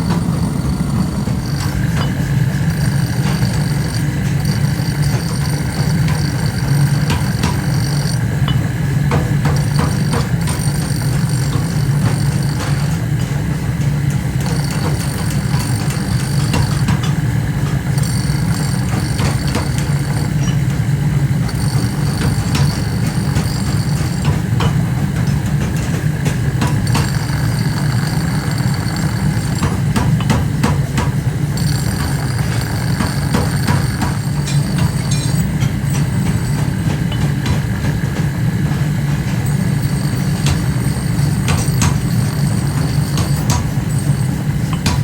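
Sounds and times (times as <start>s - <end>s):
factory machinery humming: 0.0s - 45.0s
high ringing: 0.0s - 45.0s
metallic knocks and clanks: 0.0s - 45.0s.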